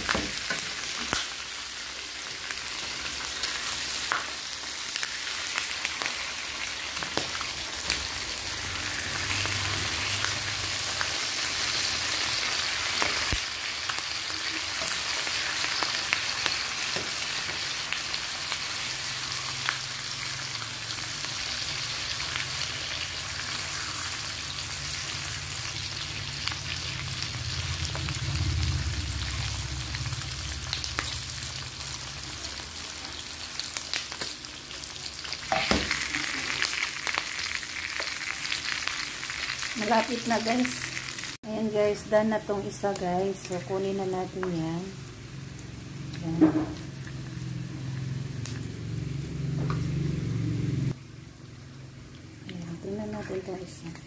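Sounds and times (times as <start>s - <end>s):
pork sizzling in frying pan: 0.0s - 54.0s.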